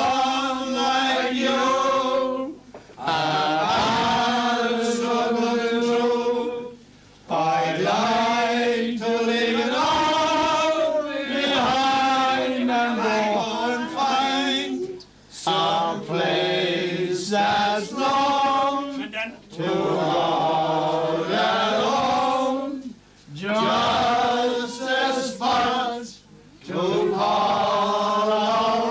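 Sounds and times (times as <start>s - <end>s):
men singing without accompaniment: 0.0s - 28.9s.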